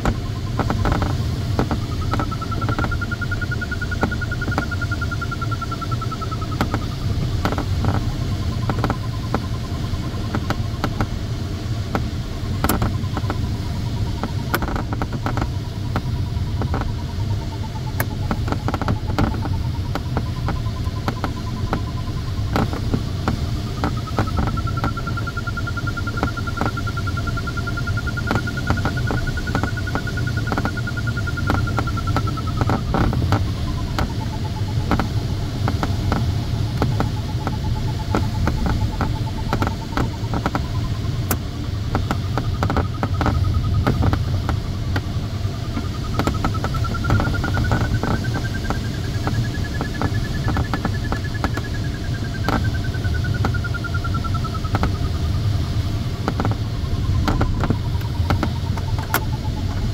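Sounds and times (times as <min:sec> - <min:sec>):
airflow rushing past cockpit: 0:00.0 - 0:59.9
raindrops ticking on canopy: 0:00.0 - 0:59.9
variometer beeping: 0:00.0 - 0:59.9.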